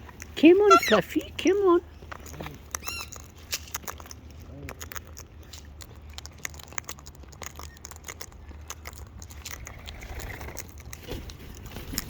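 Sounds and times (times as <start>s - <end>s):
birds pecking and cracking food: 0.0s - 12.0s.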